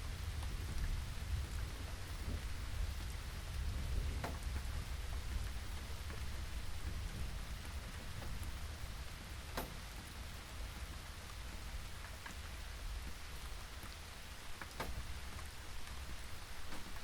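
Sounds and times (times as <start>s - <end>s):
constant low rumble: 0.0s - 17.0s
raindrops ticking close by: 0.0s - 17.0s
steady rainfall: 0.0s - 17.0s.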